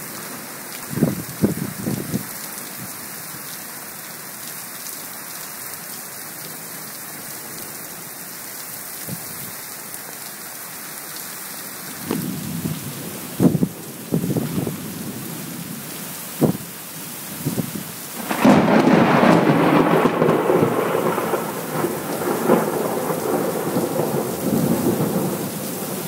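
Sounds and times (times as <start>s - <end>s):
torrential rain: 0.0s - 26.0s.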